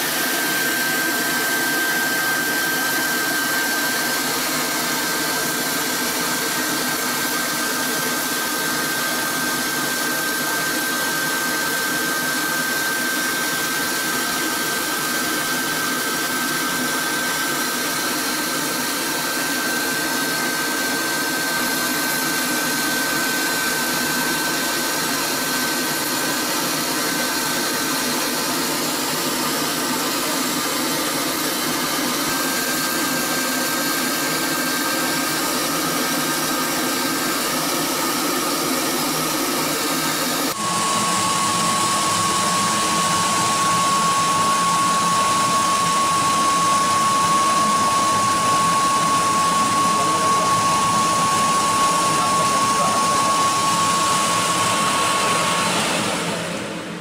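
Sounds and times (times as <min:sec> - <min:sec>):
high fan whine: 0:00.0 - 0:57.0
vacuum sucking air: 0:00.0 - 0:57.0.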